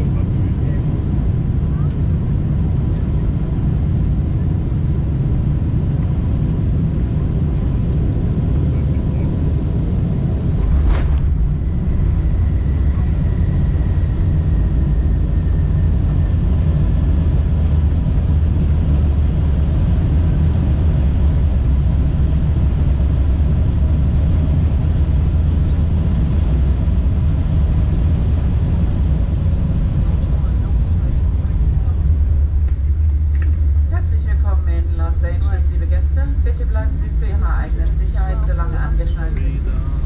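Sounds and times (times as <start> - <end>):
low rumble of landing rollout: 0.0 - 40.0.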